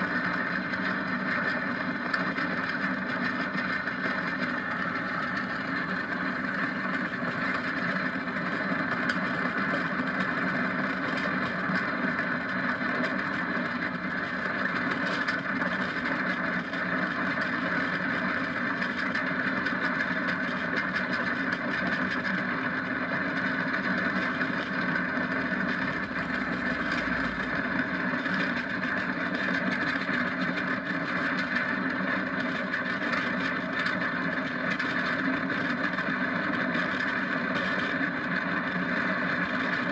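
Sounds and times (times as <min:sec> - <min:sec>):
wheels rolling on asphalt: 0:00.0 - 0:39.9.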